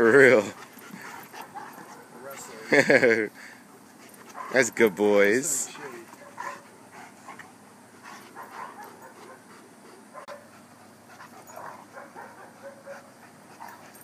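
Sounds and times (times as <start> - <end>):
faint dog noises: 0.2 - 2.8, 3.6 - 14.0.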